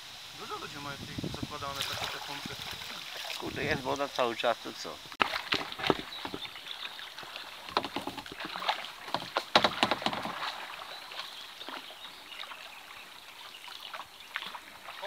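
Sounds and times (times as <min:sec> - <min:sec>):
moving water wash: 0:00.0 - 0:15.0
paddle splashes and drips: 0:01.6 - 0:04.2, 0:05.0 - 0:15.0.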